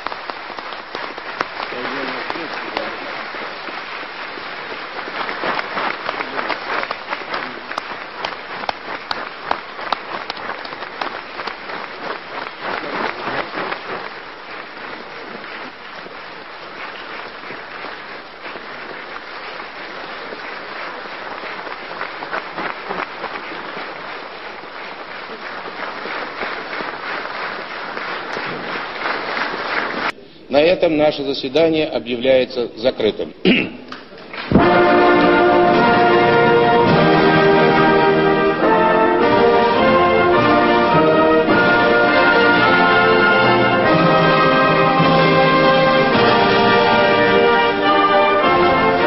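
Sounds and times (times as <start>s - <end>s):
audience applauding: 0.0s - 30.2s, 33.9s - 49.0s.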